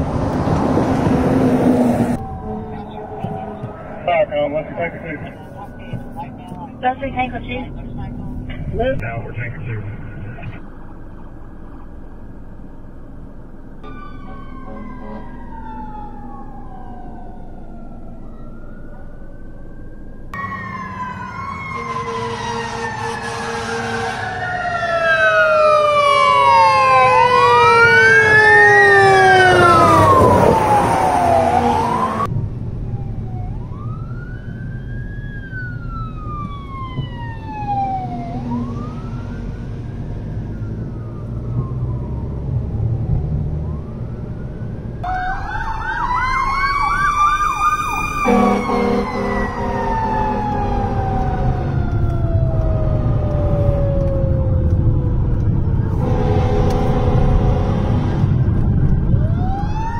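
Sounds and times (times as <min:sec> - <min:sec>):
fire truck sirens wailing: 0:00.0 - 0:59.9.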